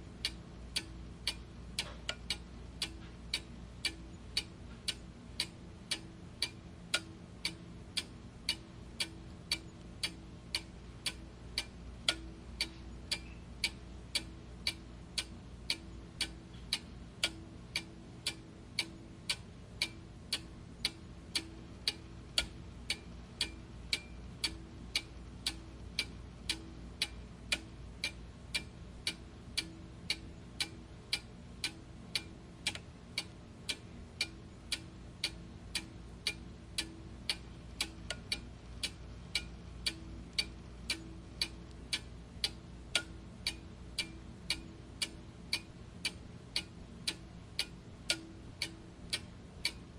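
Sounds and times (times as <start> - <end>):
faint low hum: 0.0 - 49.9
clock ticking: 0.1 - 49.9.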